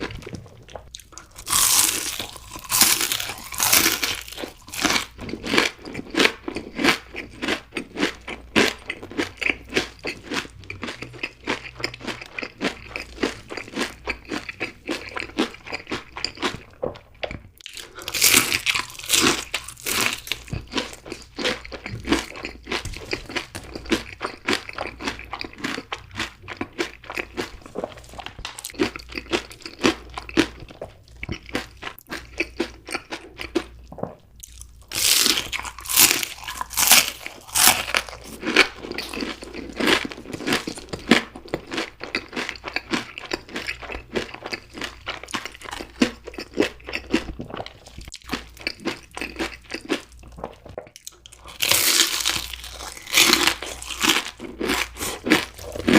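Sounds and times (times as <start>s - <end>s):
chewing crispy fried food: 0.0s - 55.9s.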